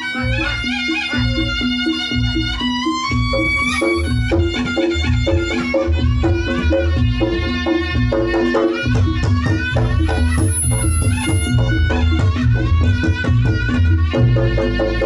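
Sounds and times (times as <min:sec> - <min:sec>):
drum beats: 0:00.0 - 0:15.0
shawm melody: 0:00.0 - 0:15.0.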